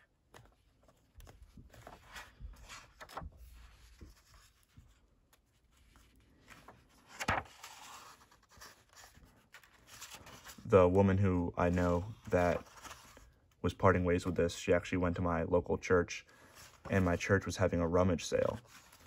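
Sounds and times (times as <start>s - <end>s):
paper pages rustling: 0.0s - 14.4s, 16.3s - 19.0s.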